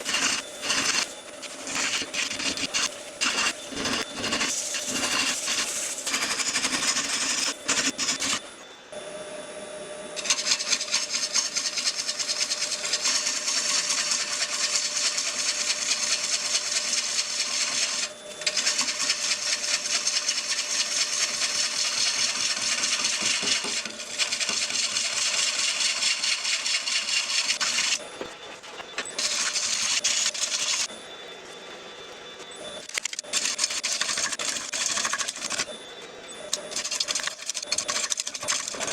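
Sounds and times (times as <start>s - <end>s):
lathe tool scraping wood: 0.0s - 8.6s, 10.2s - 30.9s, 32.4s - 38.9s
faint motor hum: 0.0s - 38.9s.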